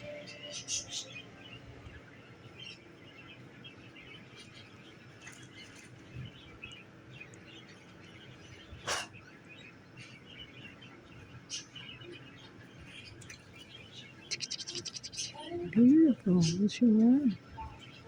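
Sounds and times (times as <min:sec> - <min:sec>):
caged birds chirping: 0:00.0 - 0:18.0.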